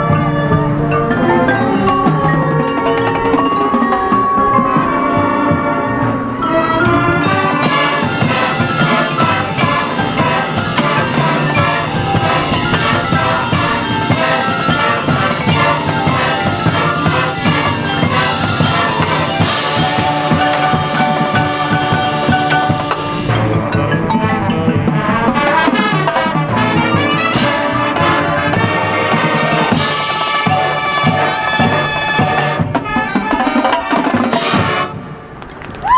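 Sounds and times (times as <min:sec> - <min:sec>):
mallet percussion: 0:00.0 - 0:34.9
drums and cymbals: 0:00.0 - 0:35.0
marching band playing: 0:00.0 - 0:35.4.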